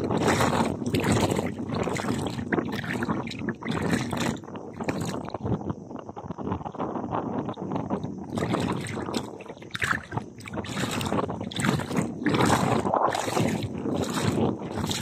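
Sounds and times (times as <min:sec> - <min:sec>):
seawater sloshing and splashing: 0:00.0 - 0:05.5, 0:08.2 - 0:15.0.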